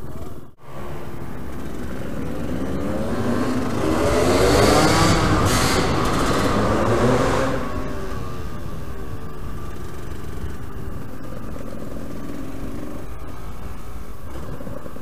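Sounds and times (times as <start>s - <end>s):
motorcycle engine revving: 0.0s - 15.0s
steady low rumble: 0.0s - 15.0s.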